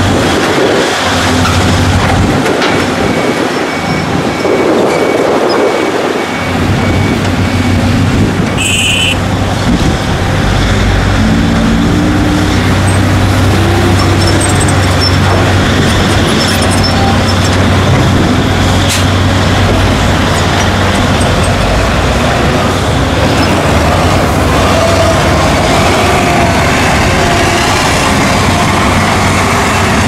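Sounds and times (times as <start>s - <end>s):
heavy diesel engines droning: 0.0s - 30.0s.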